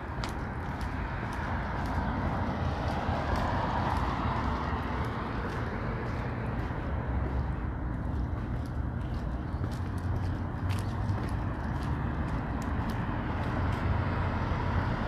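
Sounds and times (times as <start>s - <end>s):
car passing: 0.0s - 15.0s
footsteps on pavement: 0.0s - 15.0s
low traffic rumble: 0.0s - 15.0s.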